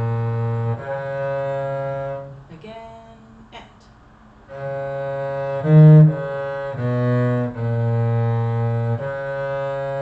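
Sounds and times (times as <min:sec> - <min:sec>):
cello bowing slow melody: 0:00.0 - 0:02.5, 0:04.5 - 0:10.0.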